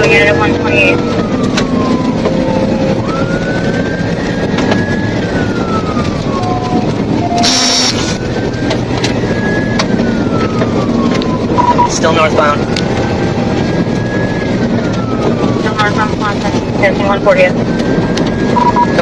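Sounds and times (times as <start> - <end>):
car engine and road noise: 0.0 - 19.0
police siren wailing: 0.0 - 19.0.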